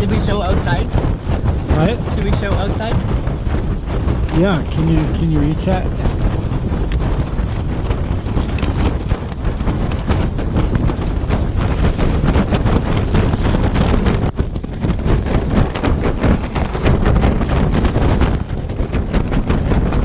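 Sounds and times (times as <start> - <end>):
tent fabric flapping: 0.0 - 20.0
wind rumbling on microphone: 0.0 - 20.0.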